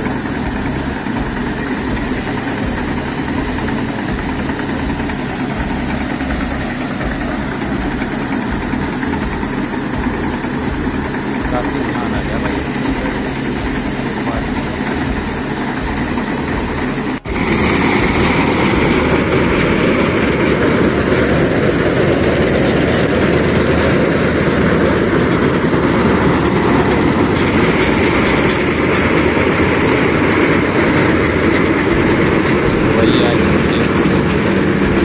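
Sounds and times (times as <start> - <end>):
combine harvester running: 0.0 - 35.0.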